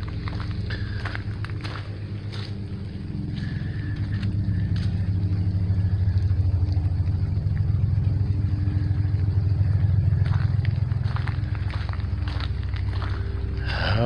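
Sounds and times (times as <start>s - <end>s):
low pulsing engine drone: 0.0s - 14.0s.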